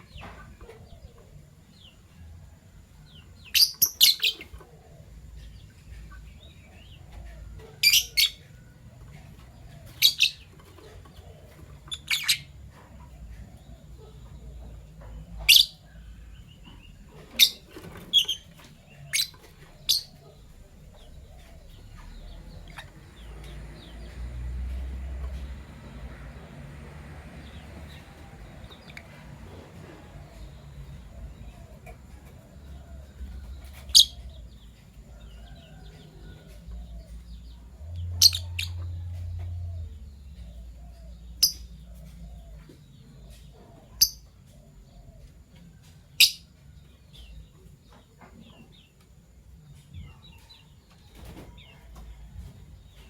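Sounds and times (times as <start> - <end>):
faint low hum: 0.0 - 53.0
lovebirds chirping: 0.0 - 53.0.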